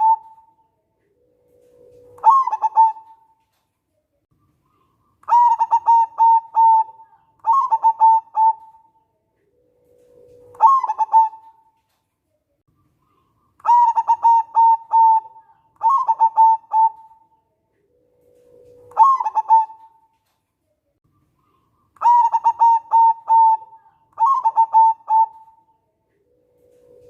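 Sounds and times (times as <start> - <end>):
dove cooing: 0.0 - 3.4, 4.7 - 11.8, 13.1 - 20.1, 21.4 - 27.0.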